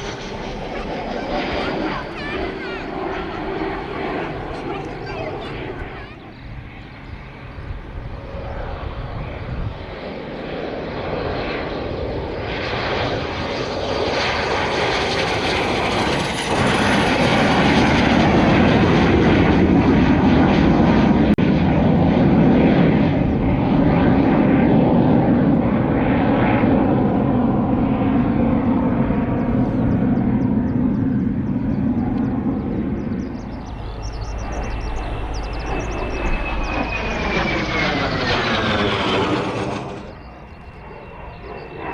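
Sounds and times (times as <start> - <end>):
military aircraft engine rush: 0.0 - 41.9.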